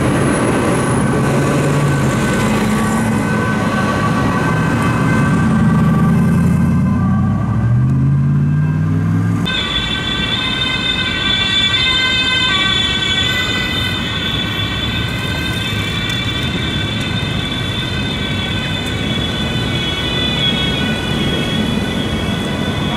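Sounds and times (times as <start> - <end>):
emergency vehicle siren: 0.0 - 22.9.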